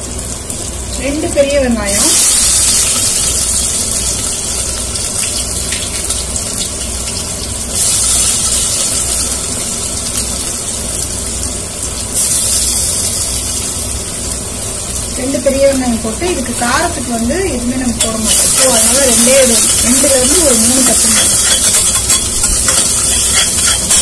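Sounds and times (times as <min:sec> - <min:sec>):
low steady hum: 0:00.0 - 0:24.0
onions sizzling in oil: 0:00.0 - 0:24.0.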